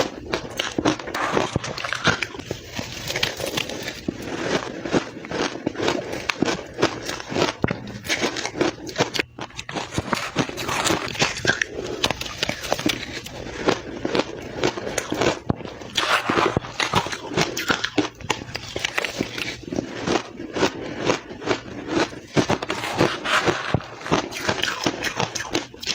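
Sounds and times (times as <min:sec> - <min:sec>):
chewing crushed ice: 0:00.0 - 0:25.9.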